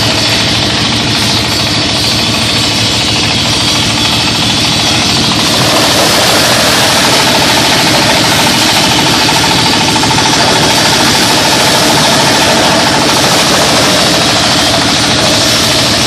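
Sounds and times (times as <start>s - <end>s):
diesel engine knocking: 0.0s - 16.0s
metallic machine rattle: 0.0s - 16.0s.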